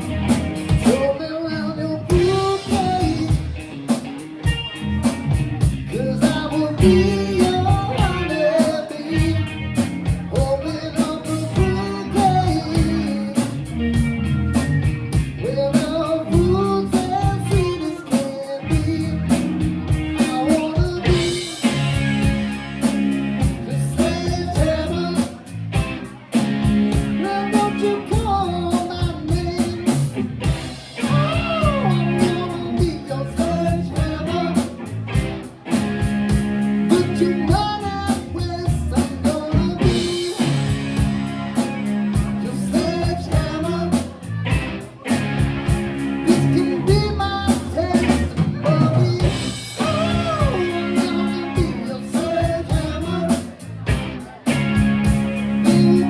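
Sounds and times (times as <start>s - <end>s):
person singing lead vocal: 0.0s - 4.1s, 5.6s - 14.5s, 15.3s - 35.5s, 36.8s - 45.2s, 46.2s - 54.6s, 55.3s - 56.0s
rock band playing: 0.0s - 56.0s.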